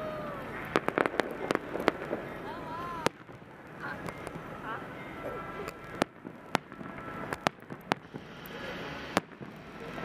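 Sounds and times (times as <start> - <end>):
firework shells bursting: 0.5 - 10.0.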